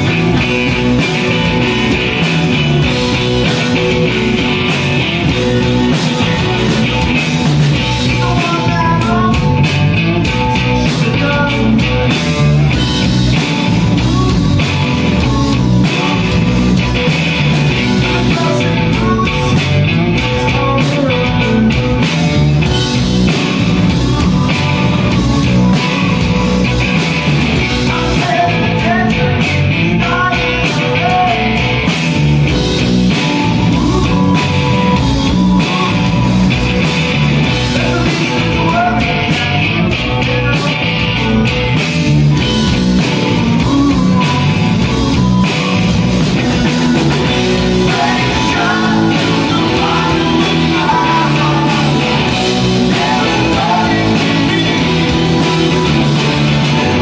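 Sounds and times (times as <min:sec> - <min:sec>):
man singing lead vocals: 0:00.0 - 0:45.7, 0:46.6 - 0:57.0
bass guitar: 0:00.0 - 0:57.0
drum kit: 0:00.0 - 0:57.0
electric guitar: 0:00.0 - 0:57.0.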